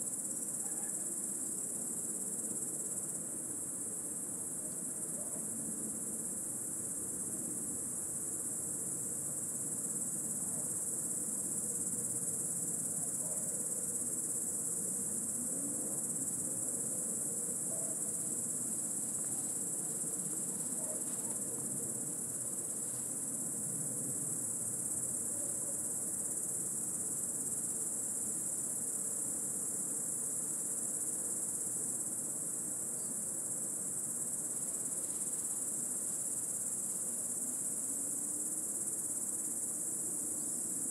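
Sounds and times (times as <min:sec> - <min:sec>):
cicadas droning: 0:00.0 - 0:40.9.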